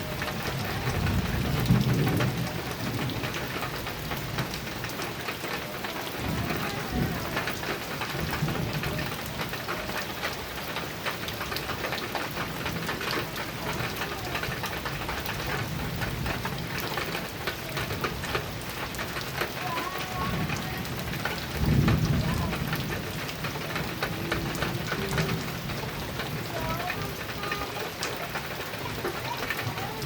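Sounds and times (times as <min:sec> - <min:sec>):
heavy rain on a metal roof: 0:00.0 - 0:30.0
thunder rumbling: 0:00.0 - 0:30.0.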